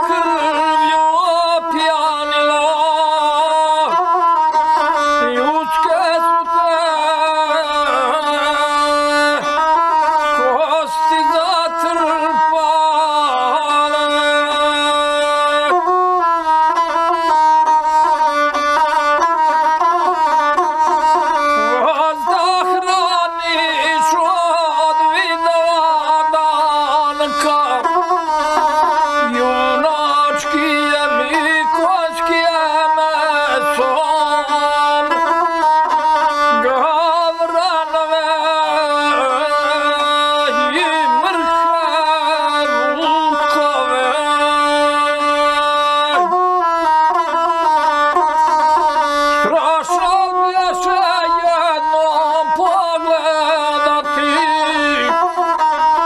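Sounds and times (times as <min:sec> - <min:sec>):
bowed single-string fiddle melody: 0:00.0 - 0:56.0.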